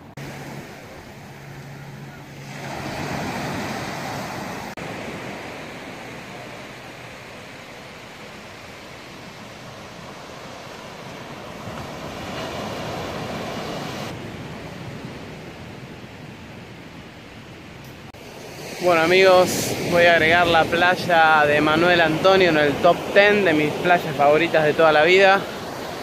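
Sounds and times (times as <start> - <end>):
waves breaking on sandy beach: 0.0 - 26.0.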